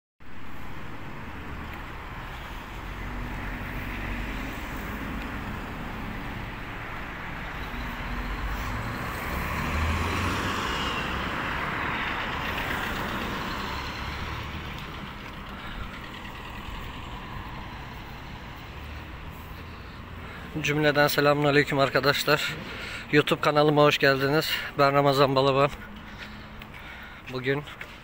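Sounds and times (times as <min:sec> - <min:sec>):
vehicle passing: 0:00.4 - 0:28.0.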